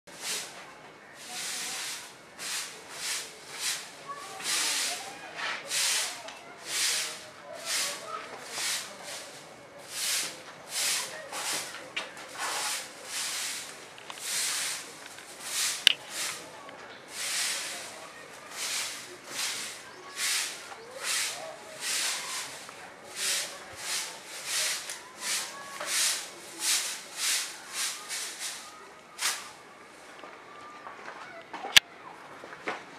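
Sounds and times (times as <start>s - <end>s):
broom sweeping cement floor: 0.1s - 29.6s.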